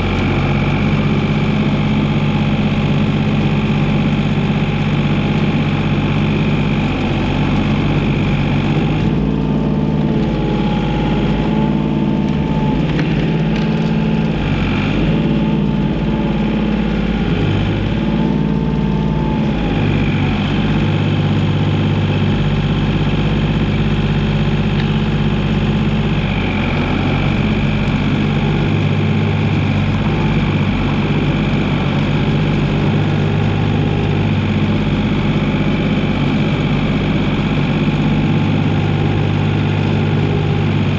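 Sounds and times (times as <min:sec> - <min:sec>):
mini excavator diesel engine: 0:00.0 - 0:40.9.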